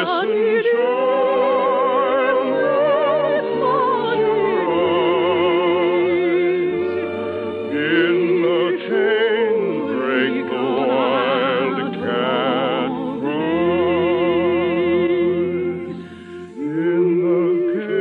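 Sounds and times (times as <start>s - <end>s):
operatic solo singing: 0.0s - 18.0s
orchestral accompaniment: 0.0s - 18.0s.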